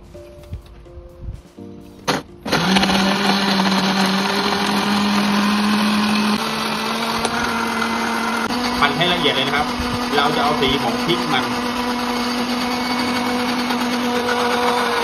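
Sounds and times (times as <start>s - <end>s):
blender running: 2.1s - 15.0s.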